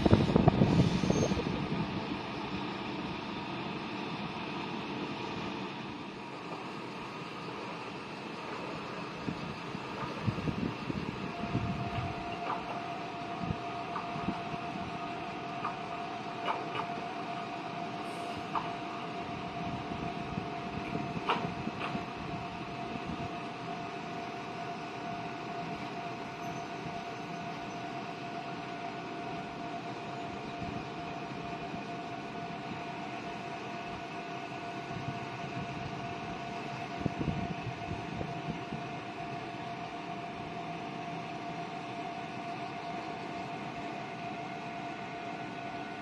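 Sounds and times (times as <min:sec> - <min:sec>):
diesel railcar idling hum: 0:00.0 - 0:46.0.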